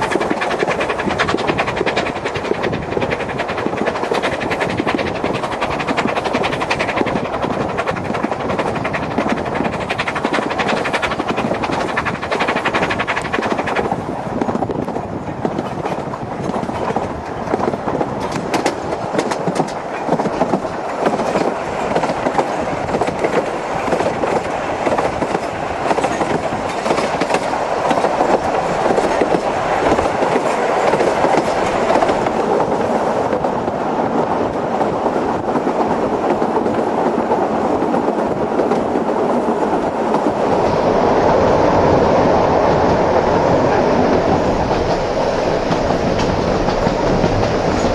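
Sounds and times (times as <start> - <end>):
train wheels clattering over rail joints: 0.0 - 40.5, 43.6 - 47.9.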